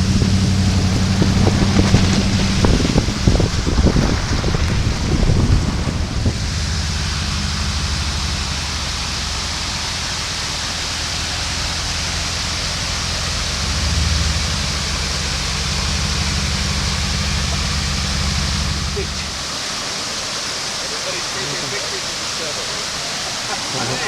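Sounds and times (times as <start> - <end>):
engine running with low drone: 0.0 - 24.0
rushing hiss: 0.0 - 24.0.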